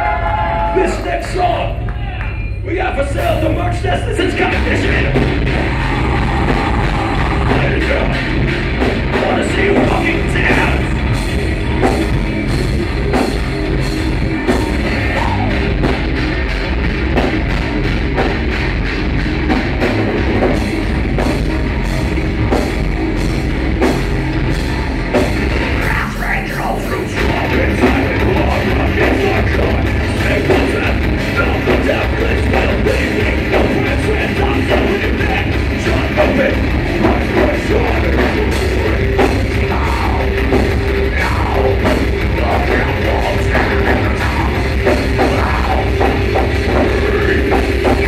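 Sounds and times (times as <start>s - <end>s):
bass guitar: 0.0s - 48.0s
distorted electric guitars: 0.0s - 48.0s
fast drumming: 0.0s - 48.0s.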